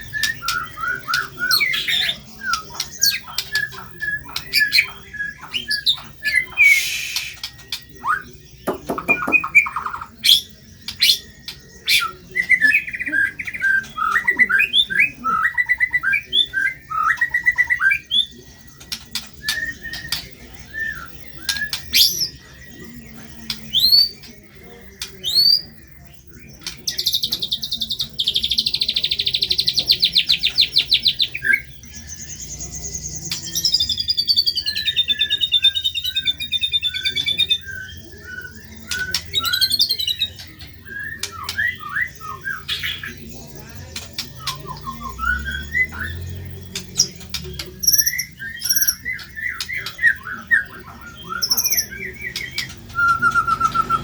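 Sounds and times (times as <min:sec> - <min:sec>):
bird singing varied whistles: 0:00.0 - 0:24.3, 0:25.0 - 0:54.0.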